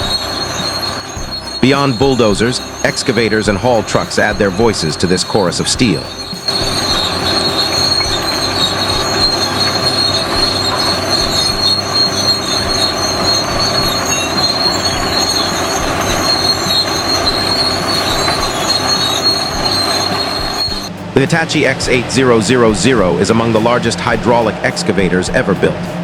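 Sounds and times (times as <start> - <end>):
high-pitched metallic squeal: 0.0 - 26.0
machinery clatter and rumble: 0.0 - 26.0.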